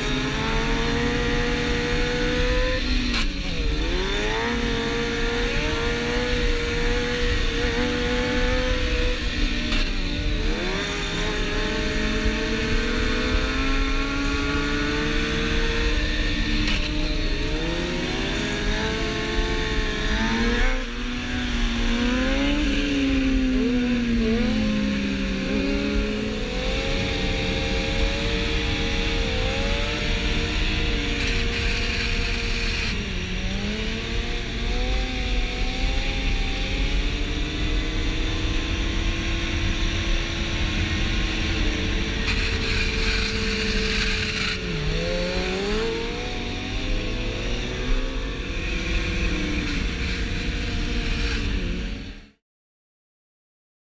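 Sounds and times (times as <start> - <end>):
motorcycle engines revving: 0.0 - 52.4.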